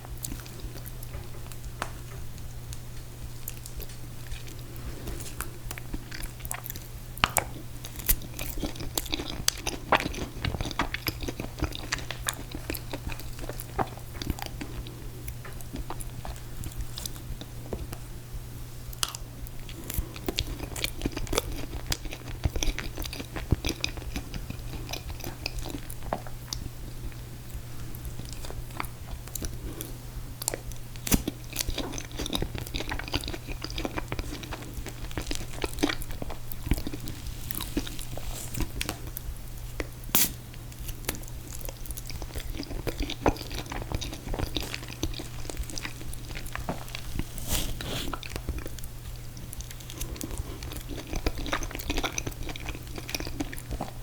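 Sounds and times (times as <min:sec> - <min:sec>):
steady low hum: 0:00.0 - 0:54.0
chewing and wet mouth sounds: 0:00.1 - 0:01.8, 0:02.4 - 0:54.0.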